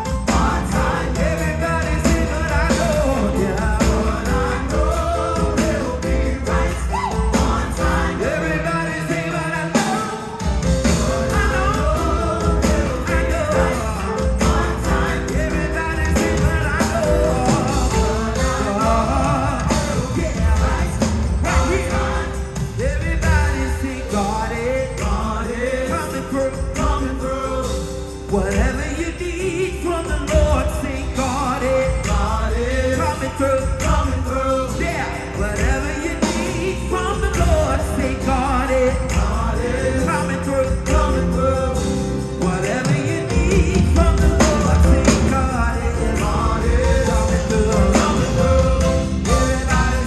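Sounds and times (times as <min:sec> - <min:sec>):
drum beats: 0:00.0 - 0:50.0
steady bass: 0:00.0 - 0:50.0
voices singing gospel: 0:00.0 - 0:50.0.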